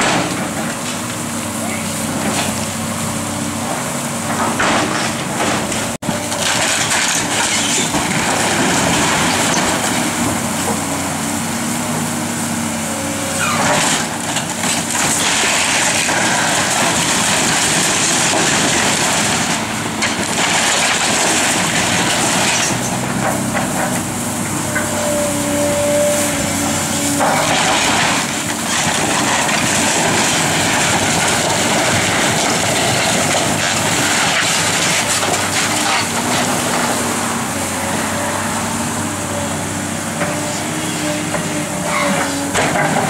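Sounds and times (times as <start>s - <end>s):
excavator diesel engine under load: 0.0s - 43.0s.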